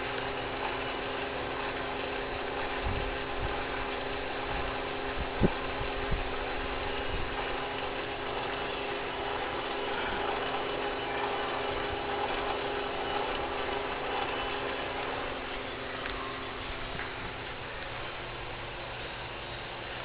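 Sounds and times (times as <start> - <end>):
lightbar motors whirring: 0.0 - 20.0.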